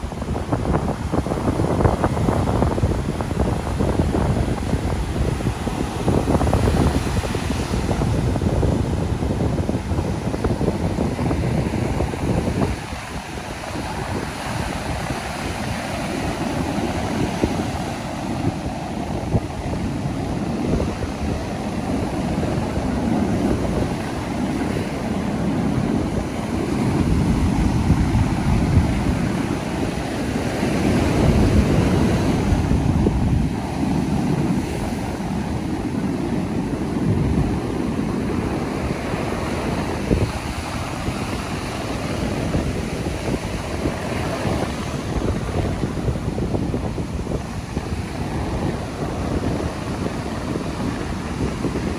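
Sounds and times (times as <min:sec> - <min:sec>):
ocean surf breaking on beach: 0:00.0 - 0:51.9.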